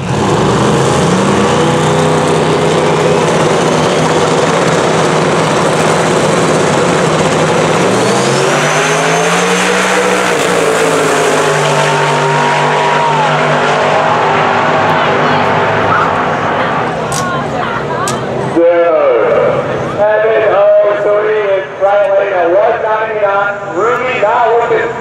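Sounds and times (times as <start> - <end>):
drag car engines revving and launching: 0.0 - 25.0.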